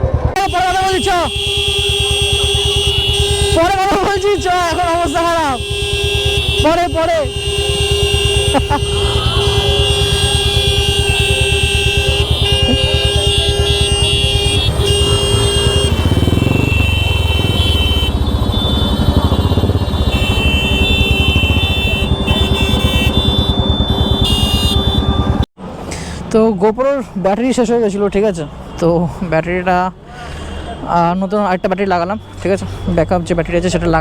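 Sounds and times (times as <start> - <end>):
vehicle horns honking: 0.0 - 25.5, 30.3 - 34.0
motorcycles: 0.0 - 26.4, 27.4 - 34.0
rumble of engines: 0.0 - 34.0.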